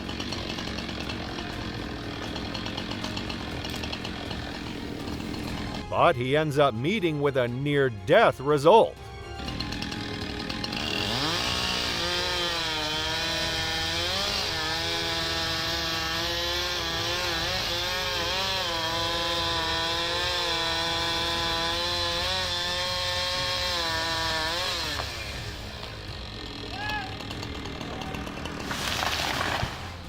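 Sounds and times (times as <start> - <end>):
chainsaw cutting tree: 0.0 - 30.0.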